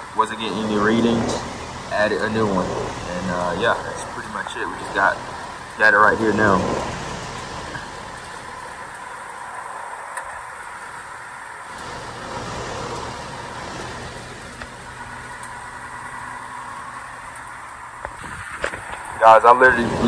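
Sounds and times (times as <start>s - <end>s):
air conditioner unit running: 0.0s - 20.0s.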